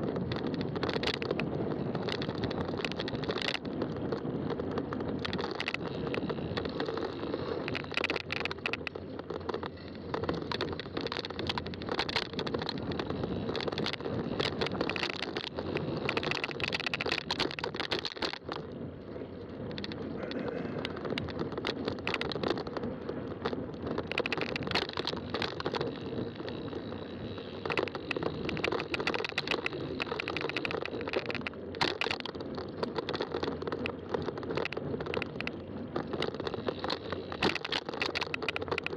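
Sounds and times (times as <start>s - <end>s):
bike rattles and clicks: 0.0s - 38.9s
bike tyre riding noise: 0.0s - 38.9s.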